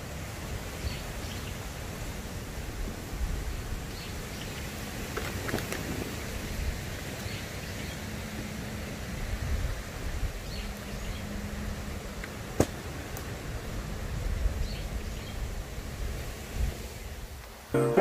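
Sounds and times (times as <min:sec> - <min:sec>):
wind rumbling on microphone: 0:00.0 - 0:07.8, 0:08.5 - 0:17.5.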